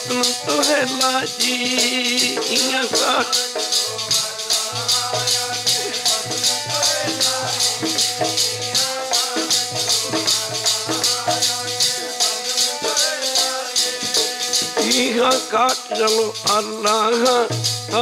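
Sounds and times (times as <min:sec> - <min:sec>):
harmonium holding notes: 0:00.0 - 0:18.0
jingling hand percussion: 0:00.0 - 0:18.0.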